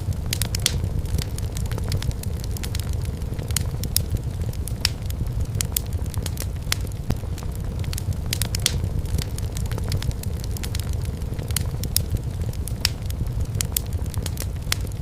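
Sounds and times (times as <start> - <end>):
low rumble of burning logs: 0.0 - 15.0
wood fire crackling and popping: 0.0 - 15.0.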